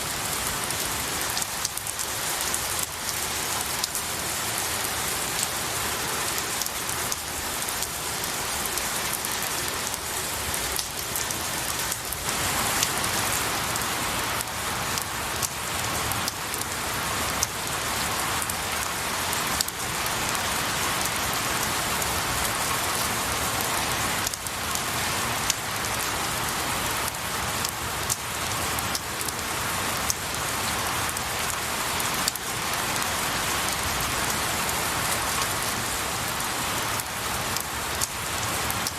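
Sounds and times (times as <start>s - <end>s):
rain on pine needles and branches: 0.0s - 38.9s.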